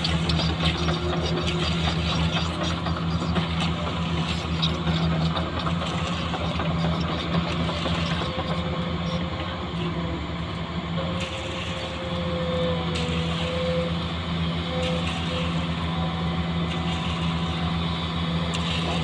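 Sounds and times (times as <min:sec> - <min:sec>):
construction vehicle engine humming: 0:00.0 - 0:19.0.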